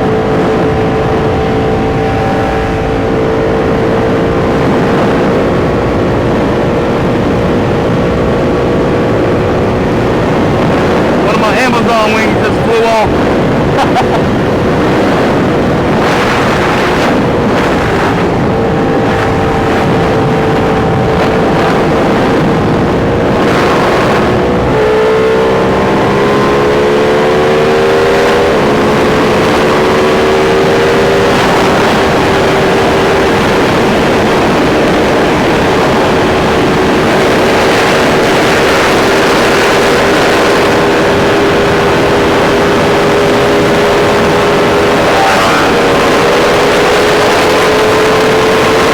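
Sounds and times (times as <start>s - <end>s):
heavy wind noise: 0.0s - 48.9s
motorcycle engine cruising: 0.0s - 48.9s.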